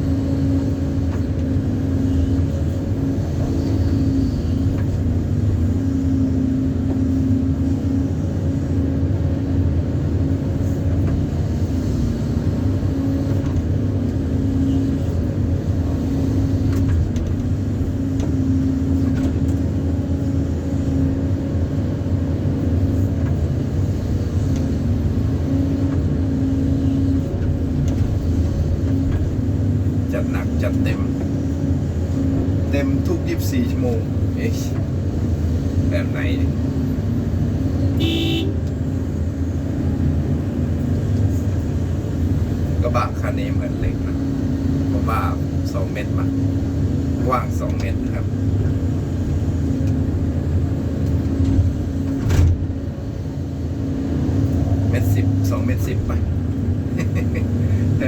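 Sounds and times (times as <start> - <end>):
large engine droning: 0.0 - 58.0.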